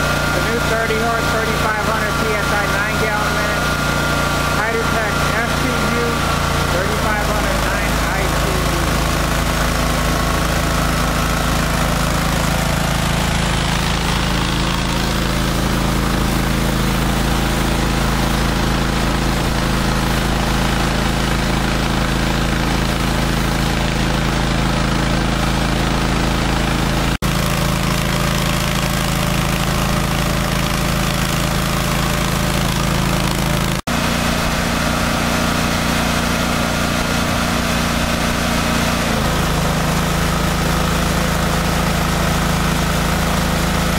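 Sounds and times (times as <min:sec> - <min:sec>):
pressure washer engine running: 0:00.0 - 0:43.9.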